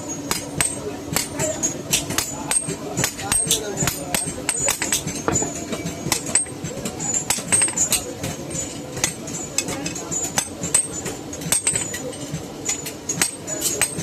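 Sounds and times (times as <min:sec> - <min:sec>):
hammer striking iron on anvil: 0:00.3 - 0:14.0.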